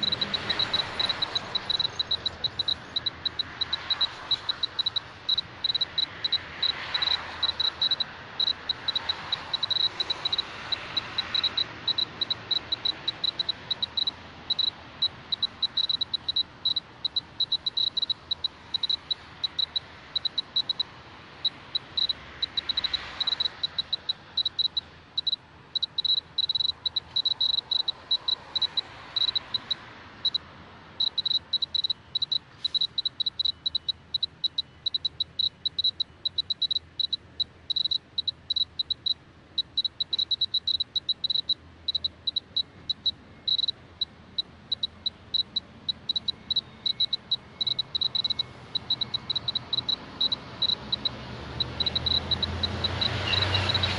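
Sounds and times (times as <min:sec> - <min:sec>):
short high beeps: 0:00.0 - 0:20.9, 0:21.8 - 0:30.4, 0:31.0 - 0:43.8, 0:44.7 - 0:53.9.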